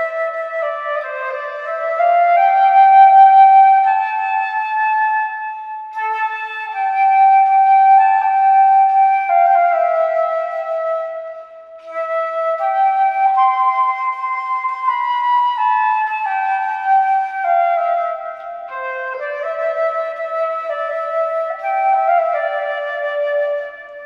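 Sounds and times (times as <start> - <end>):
solo flute hymn melody: 0.0 - 24.0.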